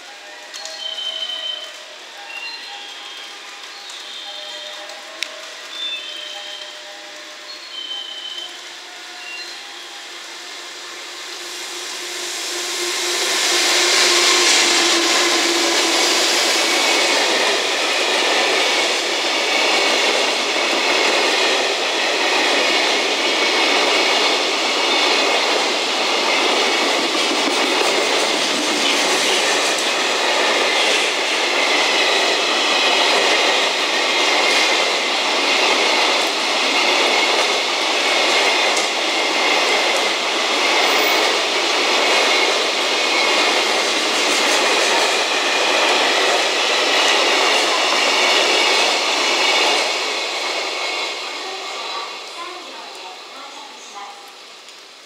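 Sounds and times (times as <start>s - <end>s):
freight train wagons rolling: 0.0s - 10.2s, 13.5s - 54.4s
electric locomotive passing: 0.0s - 55.0s.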